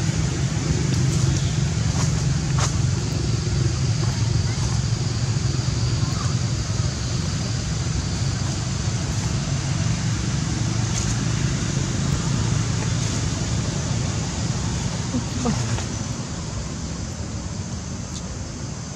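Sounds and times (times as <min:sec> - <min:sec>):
low rumble: 0:00.0 - 0:17.7.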